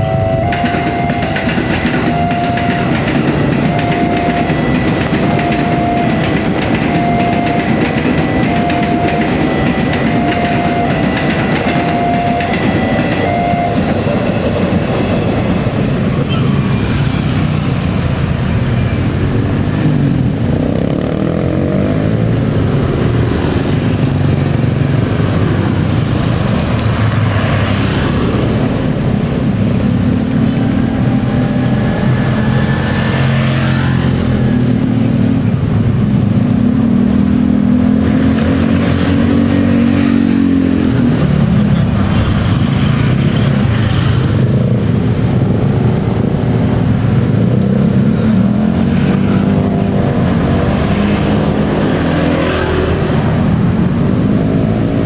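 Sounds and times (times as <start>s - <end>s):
car engines passing: 0.0s - 55.0s.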